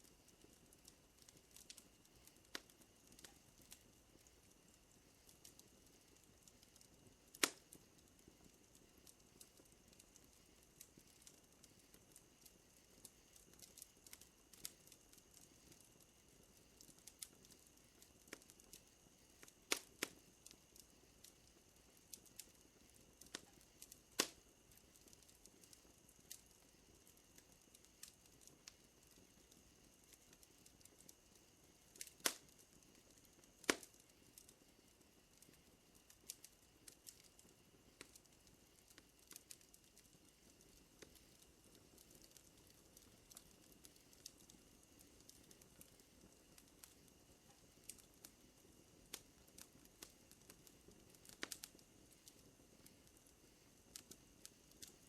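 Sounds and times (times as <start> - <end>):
fire popping and snapping: 0.0 - 55.0
wood fire crackling: 0.0 - 55.0.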